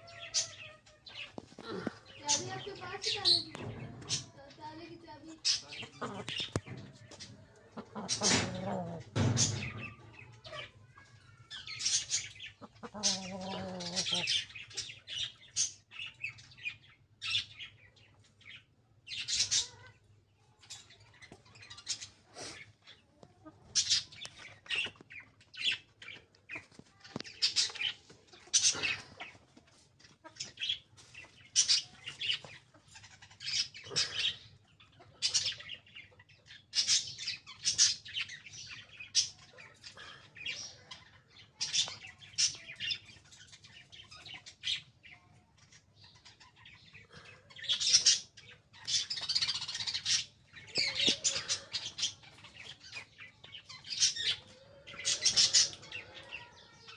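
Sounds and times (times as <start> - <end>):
caged birds chirping: 0.0 - 56.9.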